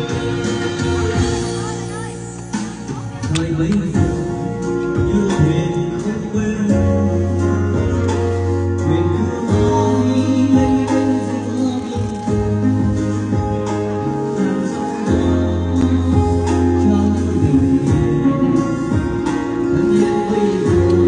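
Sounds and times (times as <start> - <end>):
background music with bass line: 0.0 - 21.0.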